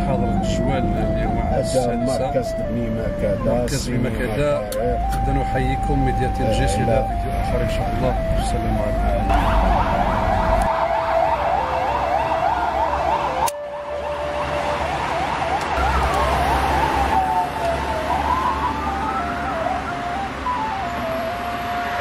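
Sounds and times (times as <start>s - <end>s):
siren fast warbling yelp: 0.0s - 3.9s, 4.8s - 22.0s
two-tone siren: 0.0s - 4.0s, 4.7s - 22.0s
siren rising and falling wail: 0.0s - 22.0s.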